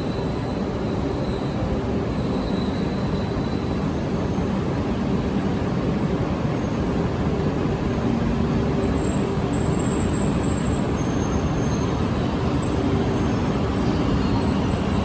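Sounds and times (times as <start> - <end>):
train running rumble and hiss: 0.0 - 15.0.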